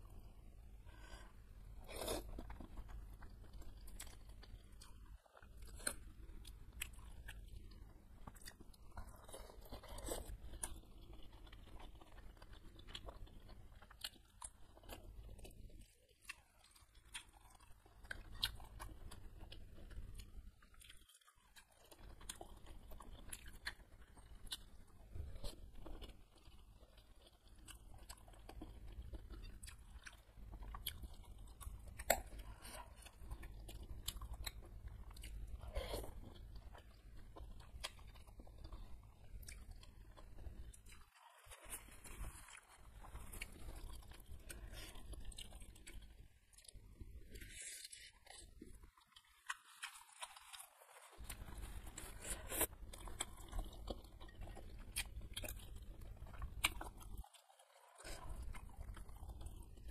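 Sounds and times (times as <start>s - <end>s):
chewing and biting food: 1.0s - 59.9s.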